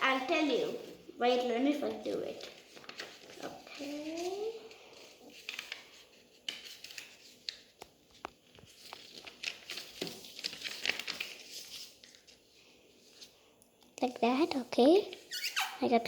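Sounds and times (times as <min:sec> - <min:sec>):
paper being folded and creased: 0:00.0 - 0:13.4.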